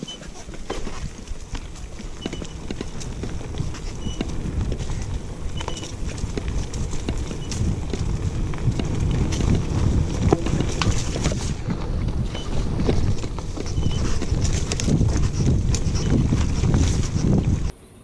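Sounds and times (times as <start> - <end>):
bike rattling over bumps: 0.0 - 17.7
bike tyres rumbling on dirt: 0.0 - 17.7.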